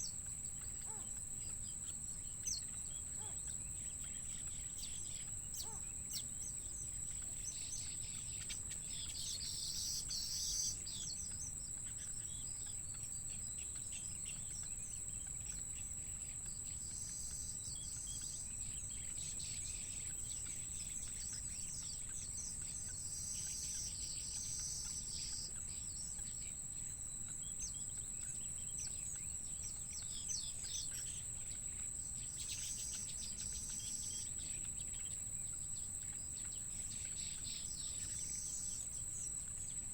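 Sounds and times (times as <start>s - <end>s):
birds chirping: 0.0s - 39.9s
high-pitched insect trill: 0.0s - 39.9s.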